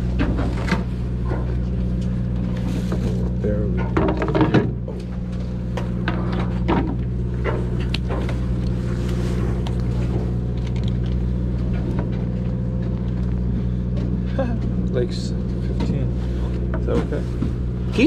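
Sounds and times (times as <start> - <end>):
boat engine hum: 0.0 - 18.0.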